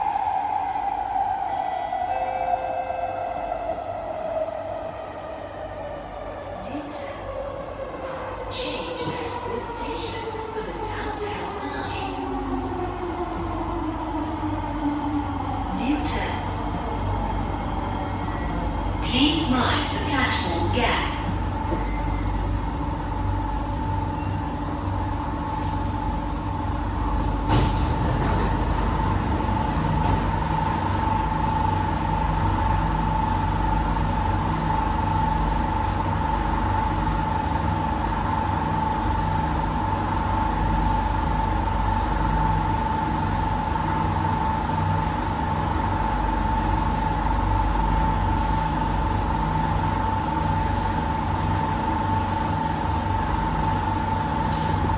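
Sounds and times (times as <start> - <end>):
train traction hum: 0.0 - 54.9.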